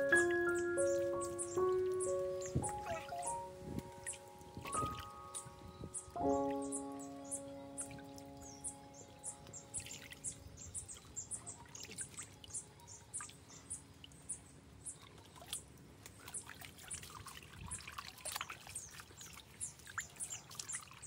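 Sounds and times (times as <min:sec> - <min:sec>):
water splashing and dripping: 0:00.0 - 0:14.2, 0:15.0 - 0:21.0
small birds chirping: 0:00.0 - 0:21.0.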